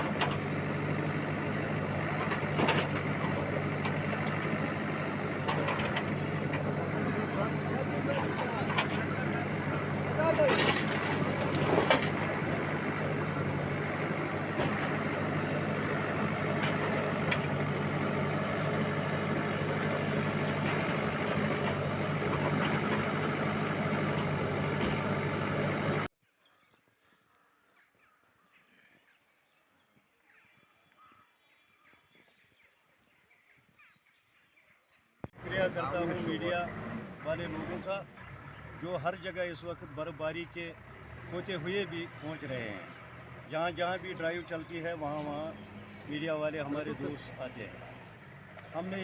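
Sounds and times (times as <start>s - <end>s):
bulldozer diesel engine humming: 0.0s - 26.1s, 35.3s - 49.0s.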